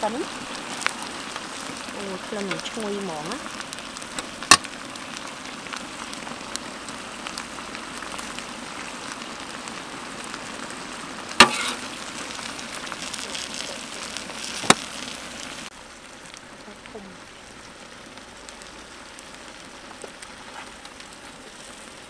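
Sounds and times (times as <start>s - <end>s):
pot boiling with bubbling hiss: 0.0s - 22.0s.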